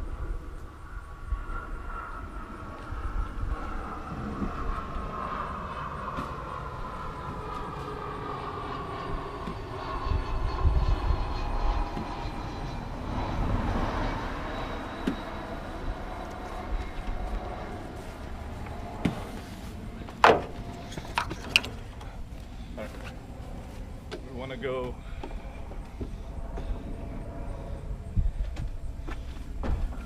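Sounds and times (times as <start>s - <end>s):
mechanical rumble: 0.0s - 24.1s.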